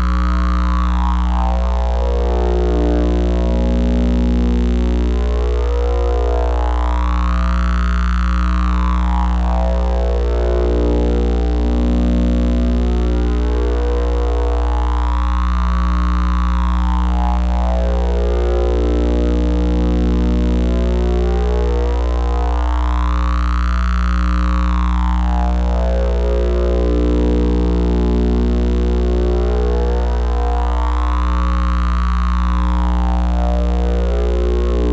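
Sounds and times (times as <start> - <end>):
electronic oscillator drone: 0.0 - 34.9.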